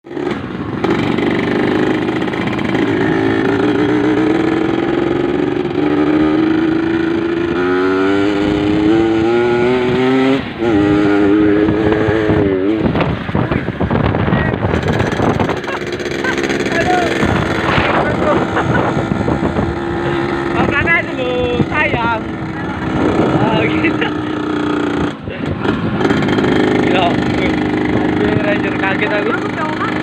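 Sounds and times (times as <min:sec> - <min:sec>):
two-stroke motorcycle engine: 0:00.0 - 0:30.0.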